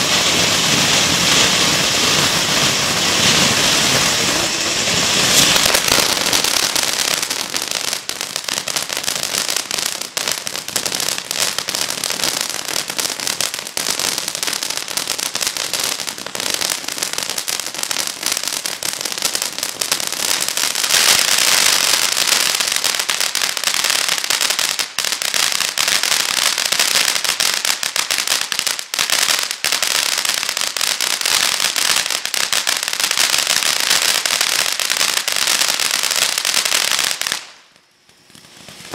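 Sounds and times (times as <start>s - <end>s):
firework crackling: 0.0s - 38.9s
firework fountain hissing: 0.0s - 38.9s.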